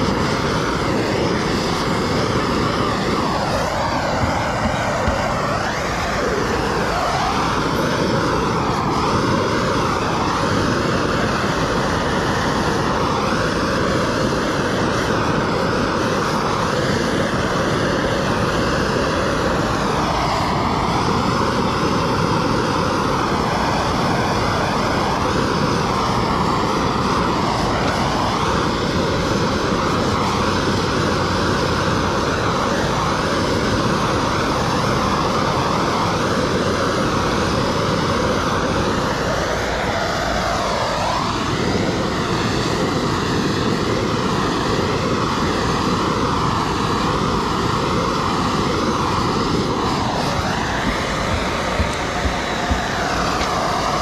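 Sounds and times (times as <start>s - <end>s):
propane torch hissing: 0.0s - 54.0s.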